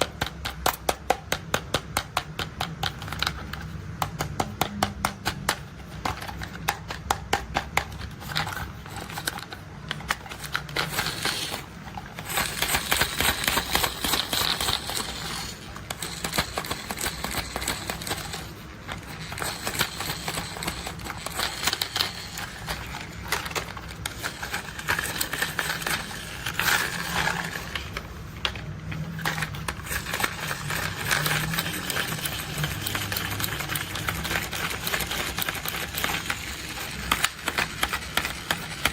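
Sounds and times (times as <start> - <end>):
tapping on toy vehicles: 0.0 - 38.9.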